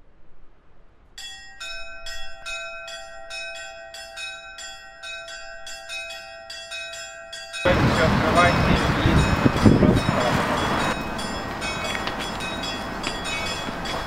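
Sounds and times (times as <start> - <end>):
church bells pealing: 1.2 - 14.0.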